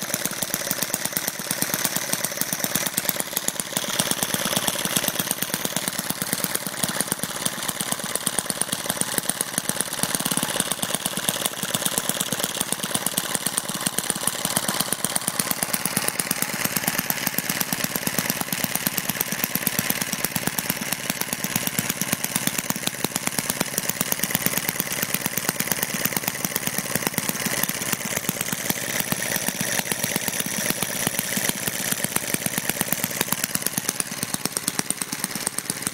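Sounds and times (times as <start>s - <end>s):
small model engine running: 0.0s - 35.9s.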